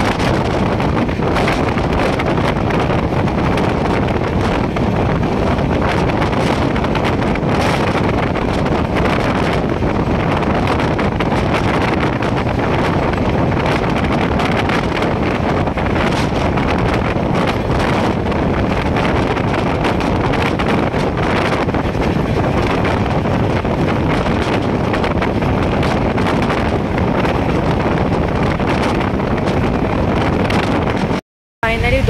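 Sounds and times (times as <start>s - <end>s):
train running at speed: 0.0s - 32.0s
wind buffeting microphone: 0.0s - 32.0s.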